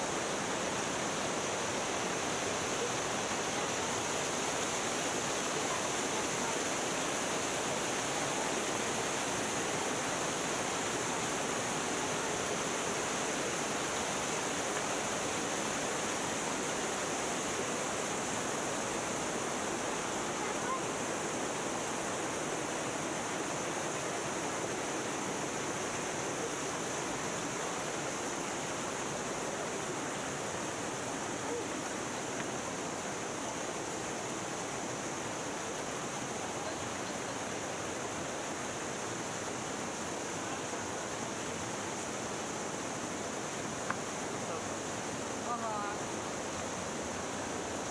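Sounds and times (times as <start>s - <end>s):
river rushing over rocks: 0.0s - 47.9s.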